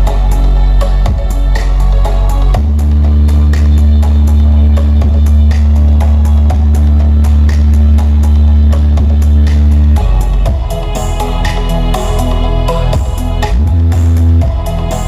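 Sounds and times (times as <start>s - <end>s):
heavy bass note: 0.0s - 15.0s
loud music with drum kit: 0.0s - 15.0s.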